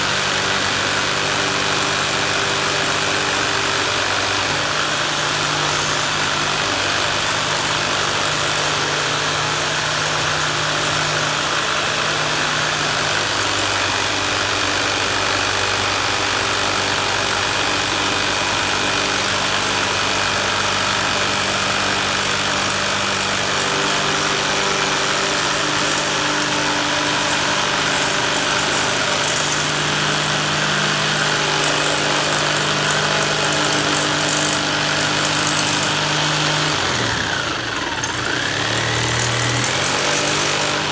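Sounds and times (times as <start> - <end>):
power saw cutting plastic sheet: 0.0 - 40.9.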